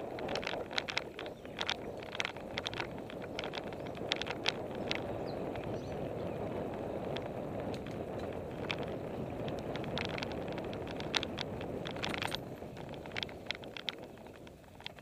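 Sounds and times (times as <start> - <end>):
bike clicking and rattling: 0.0 - 15.0.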